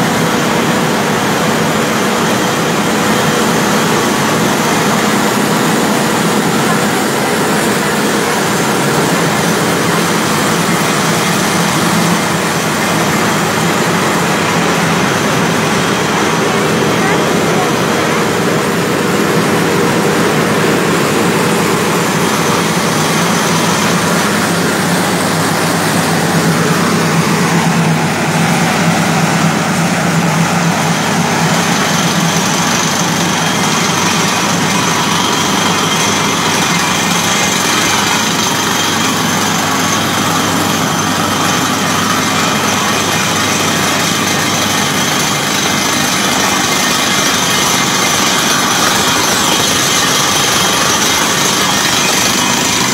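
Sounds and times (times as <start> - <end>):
loud machinery drone: 0.0 - 52.9.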